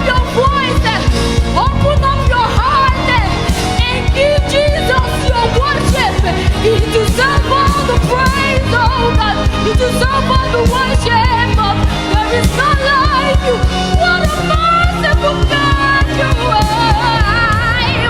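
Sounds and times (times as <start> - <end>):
band playing steady beat: 0.0 - 17.8.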